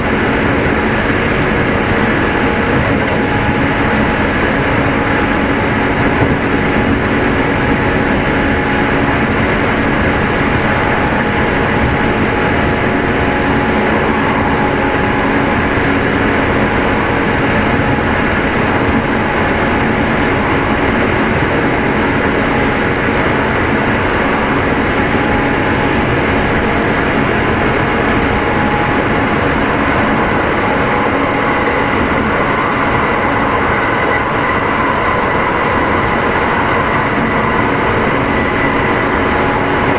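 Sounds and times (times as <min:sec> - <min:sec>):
train motor and gear whine: 0:00.0 - 0:39.9
train wheels rumbling on rails: 0:00.0 - 0:39.9.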